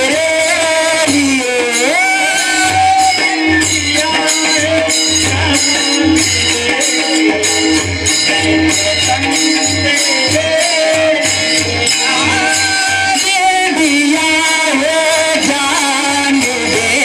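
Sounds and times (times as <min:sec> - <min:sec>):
drum: 0:00.0 - 0:17.0
jingling hand cymbals: 0:00.0 - 0:17.0
person singing devotional song: 0:00.0 - 0:17.0.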